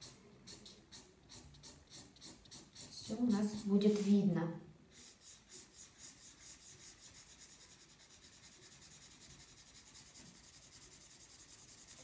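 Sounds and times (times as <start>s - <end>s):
marker scratching on paper: 0.0s - 4.2s, 4.9s - 12.0s.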